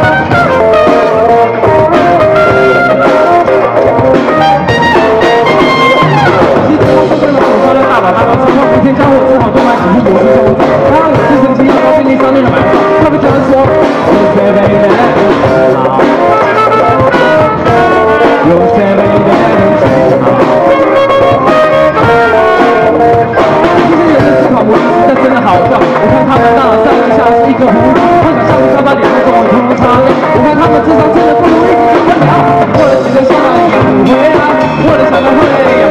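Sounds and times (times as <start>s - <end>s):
lead singer singing: 0.0s - 35.9s
rock band playing: 0.0s - 35.9s.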